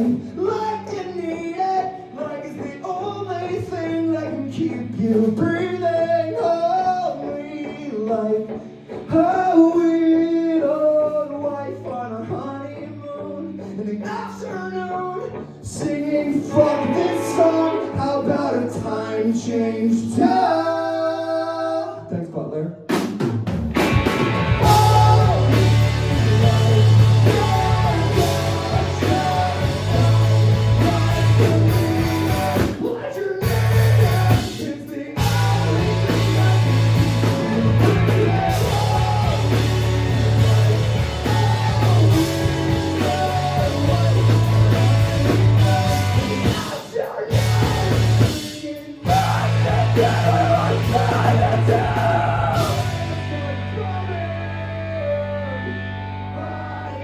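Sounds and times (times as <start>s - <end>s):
live rock band playing: 0.0s - 20.5s, 22.9s - 57.0s.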